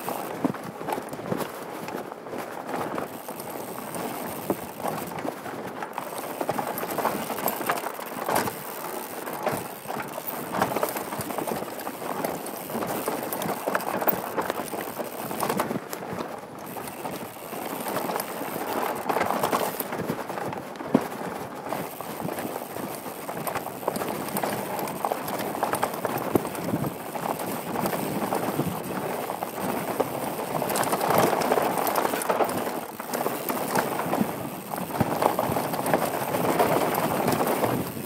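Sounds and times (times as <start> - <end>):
bike tyres clattering over stones: 0.0 - 38.0.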